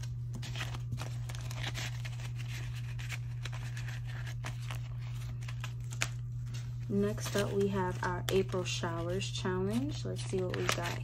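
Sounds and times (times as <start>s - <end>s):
paper money and plastic pouch rustling: 0.0s - 11.0s
steady low hum: 0.0s - 11.0s.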